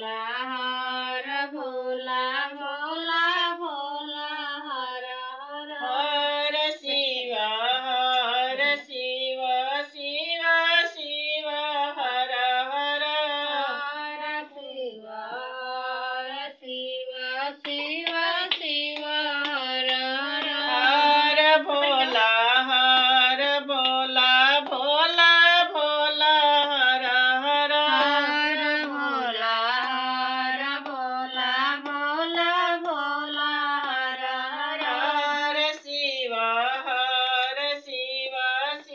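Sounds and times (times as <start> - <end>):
woman singing unaccompanied: 0.0 - 38.9.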